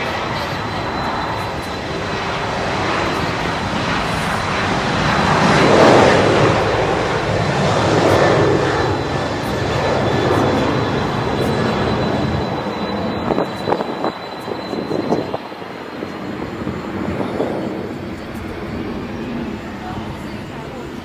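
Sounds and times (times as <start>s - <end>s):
airplane passing: 0.0s - 21.0s.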